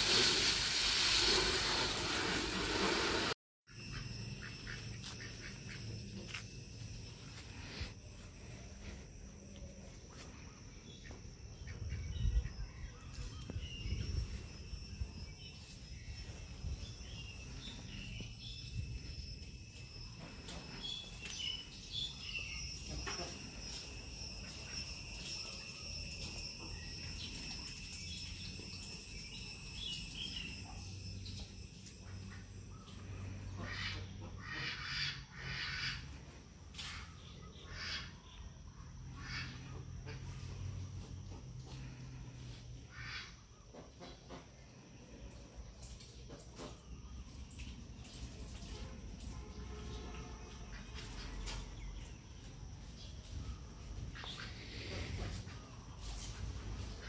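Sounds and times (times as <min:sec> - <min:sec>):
insects droning: 0:03.7 - 0:57.0.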